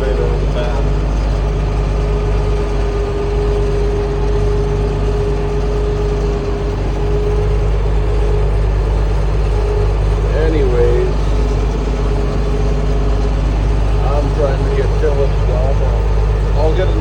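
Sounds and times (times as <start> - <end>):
tractor diesel engine droning: 0.0 - 17.0
turbo whine: 0.0 - 17.0.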